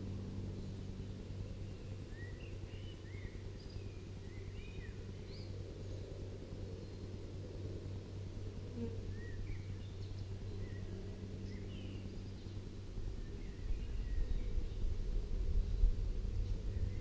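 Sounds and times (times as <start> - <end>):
honey bees humming: 0.0 - 13.7
small birds chirping: 0.0 - 17.0.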